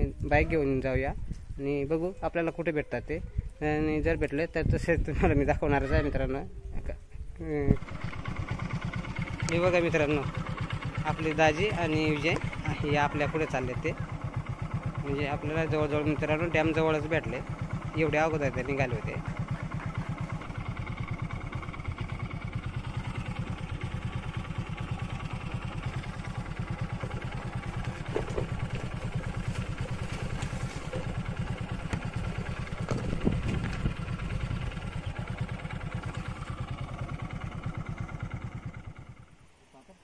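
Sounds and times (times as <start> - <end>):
motorcycle engine running: 7.4 - 39.6.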